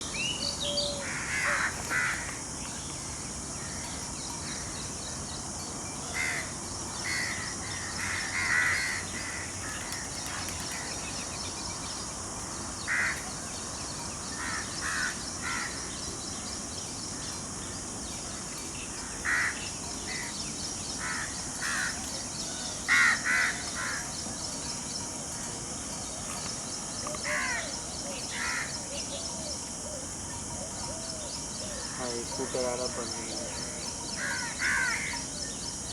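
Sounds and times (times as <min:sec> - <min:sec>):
steady high hiss: 0:00.0 - 0:35.9.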